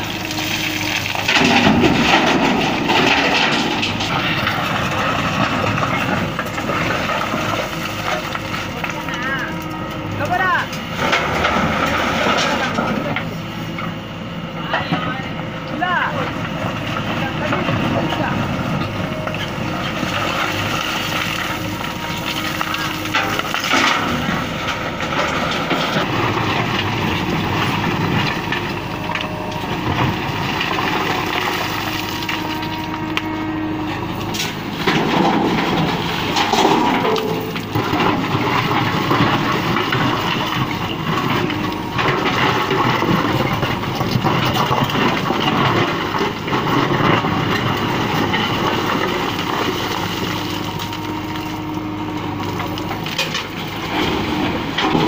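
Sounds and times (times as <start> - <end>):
broken stone clattering into truck: 0.0 - 9.6, 10.2 - 13.9, 16.5 - 33.1, 34.1 - 51.7, 52.4 - 55.0
backhoe loader diesel engine: 0.0 - 55.0.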